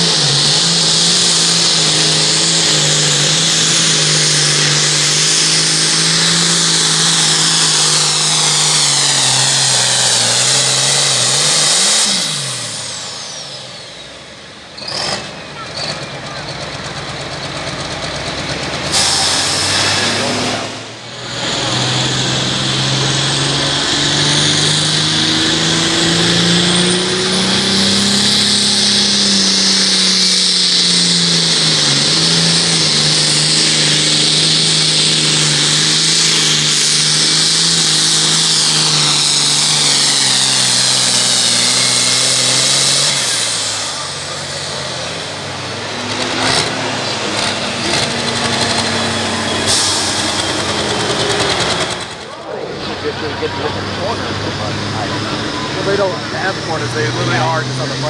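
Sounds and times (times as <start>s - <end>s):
tractor diesel engine at full throttle: 0.0s - 58.0s.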